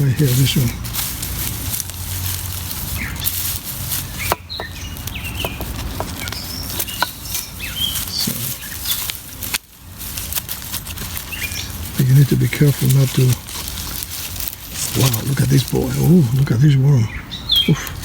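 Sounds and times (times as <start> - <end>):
rustling of mulch and soil: 0.0 - 18.0
small birds chirping: 0.0 - 18.0.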